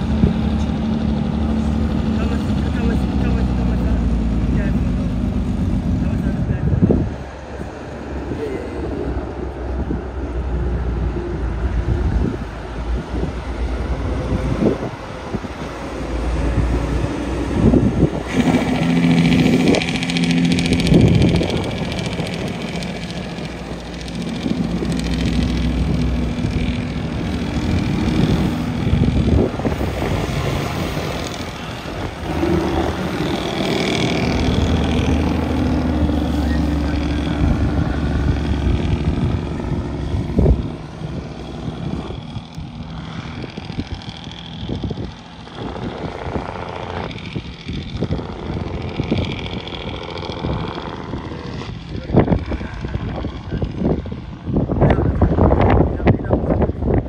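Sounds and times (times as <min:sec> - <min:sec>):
diesel truck engine running: 0:00.0 - 0:57.0
wind noise on microphone: 0:06.2 - 0:57.0.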